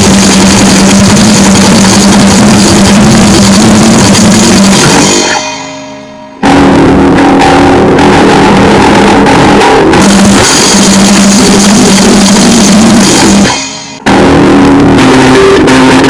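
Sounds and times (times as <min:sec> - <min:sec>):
distorted noise music: 0:00.0 - 0:16.0.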